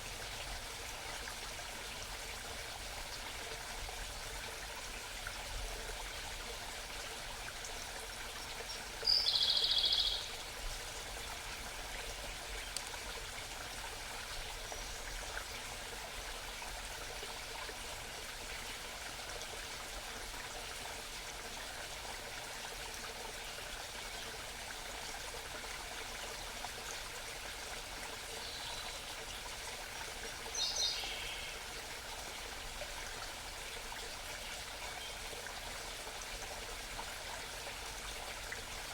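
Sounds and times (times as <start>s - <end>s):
brook running: 0.0s - 38.9s.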